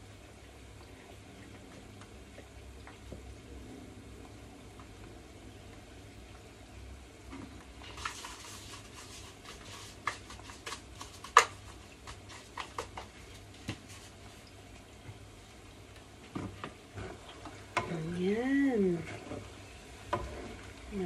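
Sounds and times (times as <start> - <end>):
frying hiss: 4.1 - 21.0.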